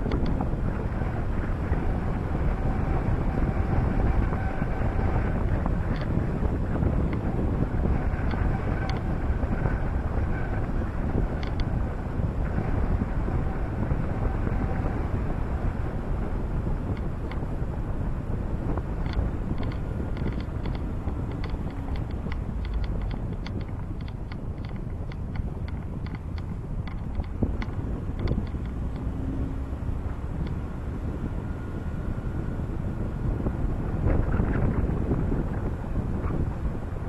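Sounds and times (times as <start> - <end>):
wind and road noise: 0.0 - 37.0.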